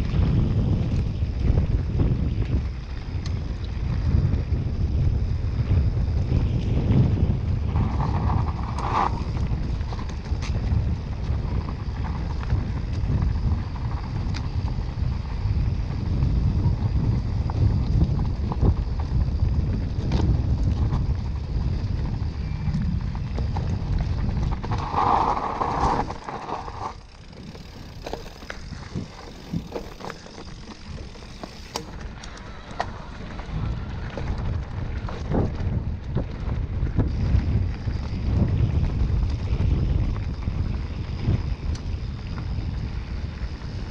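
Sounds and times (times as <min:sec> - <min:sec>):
bike rattling over rough ground: 0:00.0 - 0:43.9
wind buffeting microphone: 0:00.0 - 0:43.9.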